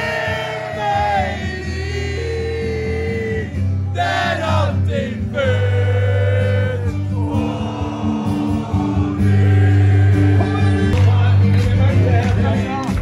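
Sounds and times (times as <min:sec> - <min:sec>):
crowd singing along: 0:00.0 - 0:12.8
music through a pa: 0:00.0 - 0:13.0.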